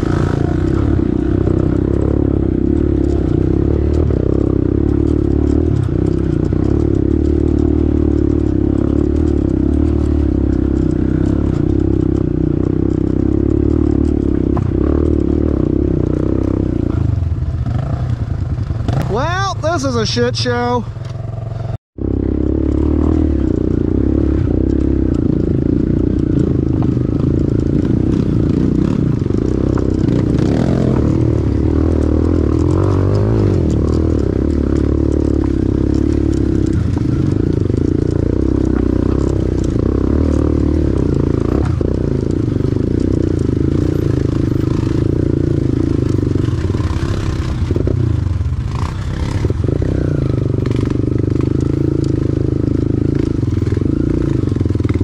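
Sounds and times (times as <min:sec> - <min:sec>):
small motorbike engine running: 0:00.0 - 0:55.0.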